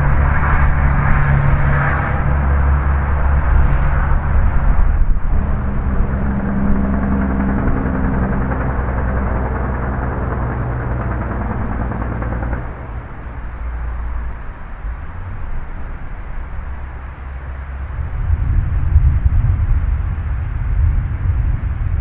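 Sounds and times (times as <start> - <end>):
rolling thunder: 0.0 - 22.0.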